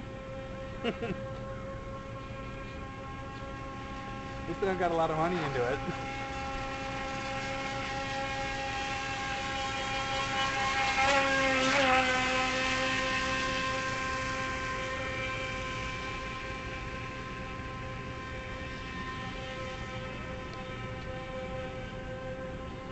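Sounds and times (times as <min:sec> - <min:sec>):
electric motor whine: 0:00.0 - 0:22.9.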